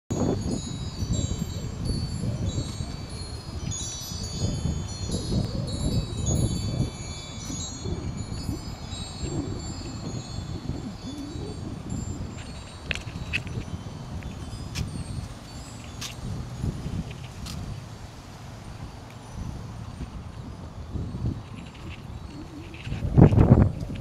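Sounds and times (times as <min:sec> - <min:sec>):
wind chime ringing: 0:00.1 - 0:24.0
wind rumbling on microphone: 0:00.1 - 0:24.0.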